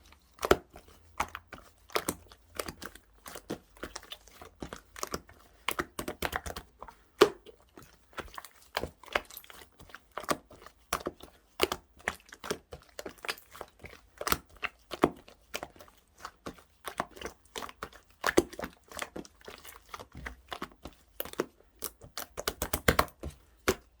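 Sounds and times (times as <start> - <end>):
slime squishing with sticky pops: 0.0 - 24.0.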